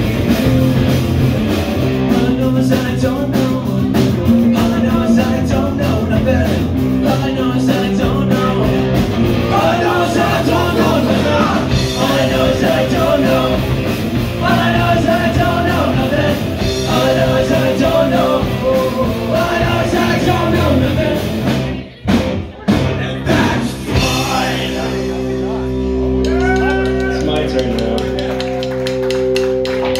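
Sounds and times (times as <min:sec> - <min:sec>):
live rock band with singing: 0:00.0 - 0:29.9.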